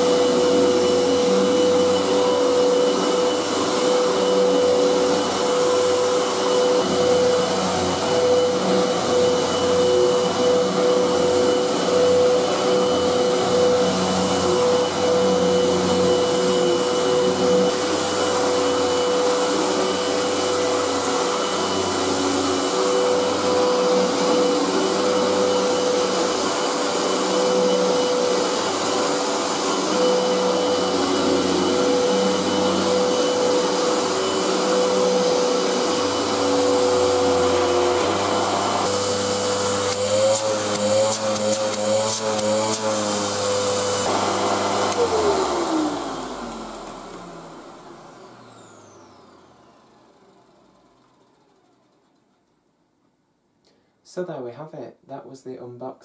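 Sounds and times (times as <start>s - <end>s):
upright vacuum cleaner on carpet: 0.0s - 52.4s.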